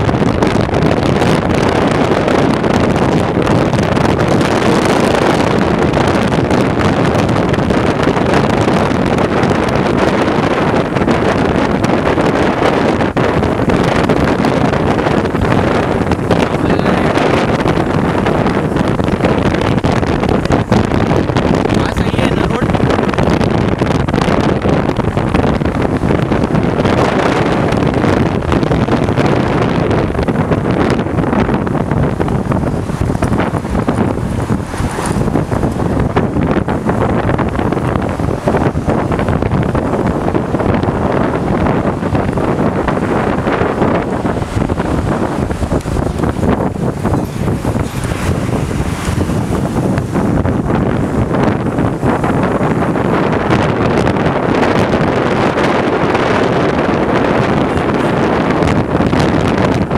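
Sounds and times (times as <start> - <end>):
road and traffic noise: 0.0 - 59.9
wind rush on microphone: 0.0 - 59.9.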